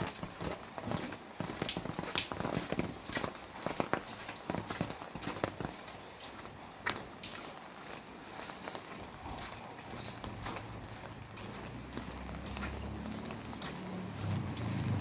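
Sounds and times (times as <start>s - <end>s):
rain falling: 0.0s - 15.0s
raindrops tapping surfaces: 0.0s - 15.0s.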